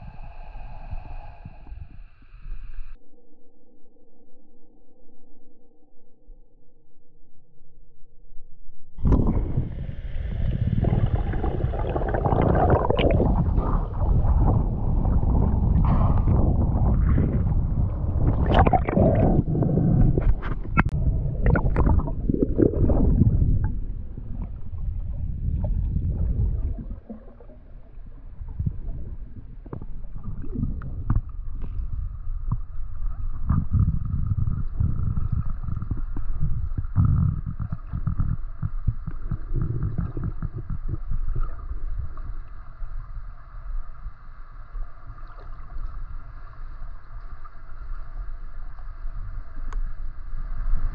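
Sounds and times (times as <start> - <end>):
faint steady hum: 0.0 - 50.9
muffled underwater water gurgling: 9.0 - 50.9.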